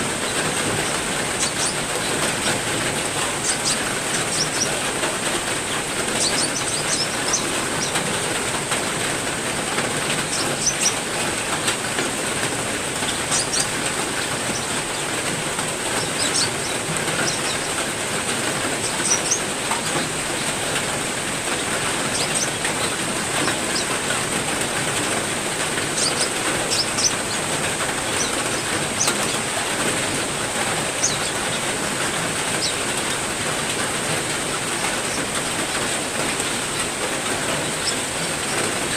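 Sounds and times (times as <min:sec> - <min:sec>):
heavy rain pattering: 0:00.0 - 0:38.9
songbirds chirping: 0:00.0 - 0:38.9.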